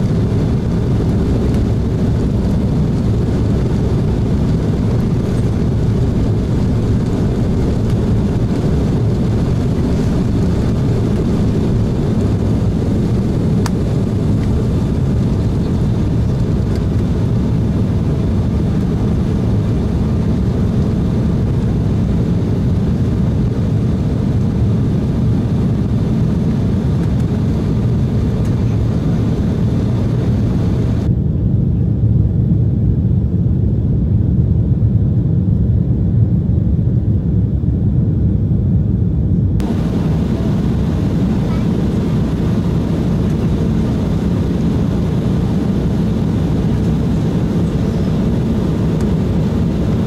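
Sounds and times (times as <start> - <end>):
airliner engines low rumble: 0.0 - 50.0.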